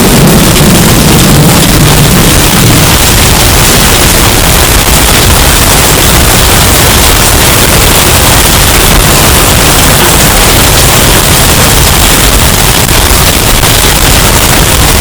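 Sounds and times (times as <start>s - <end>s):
distorted storm wind roar: 0.0s - 15.0s.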